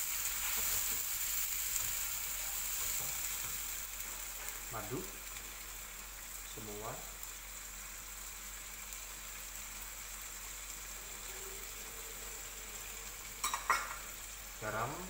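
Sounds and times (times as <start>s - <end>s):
sauce sizzling in a frying pan: 0.0s - 15.0s.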